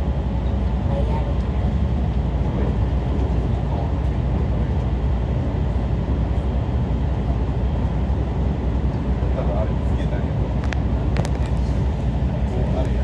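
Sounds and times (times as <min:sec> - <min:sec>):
electric train wheels and motors rumbling: 0:00.0 - 0:13.0.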